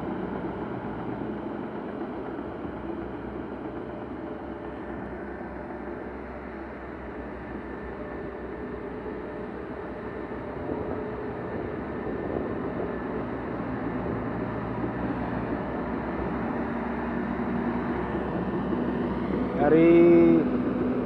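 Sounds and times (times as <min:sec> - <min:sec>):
heavy machinery diesel engines running: 0:00.0 - 0:21.0.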